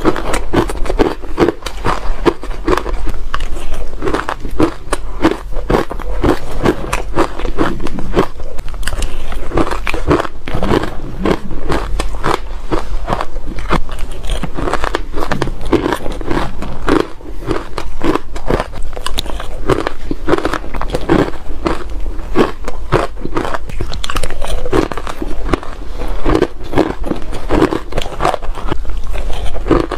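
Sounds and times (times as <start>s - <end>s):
ice crunching between teeth: 0.0s - 29.9s.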